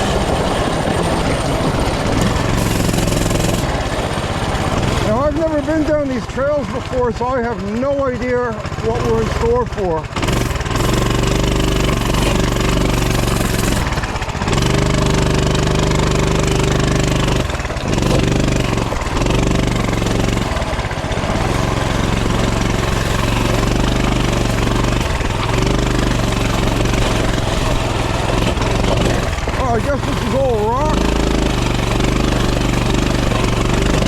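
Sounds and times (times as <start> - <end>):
mini bike engine under throttle: 0.0 - 34.0.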